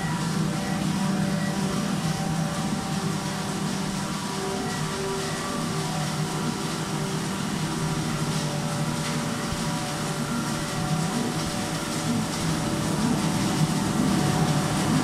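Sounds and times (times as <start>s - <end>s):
production line machinery hum: 0.0s - 15.0s.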